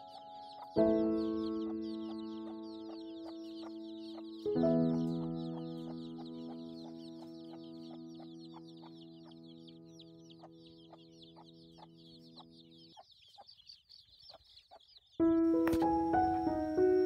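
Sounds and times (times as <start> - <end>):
chicks peeping: 0.0 - 17.0
faint background music: 0.0 - 17.0.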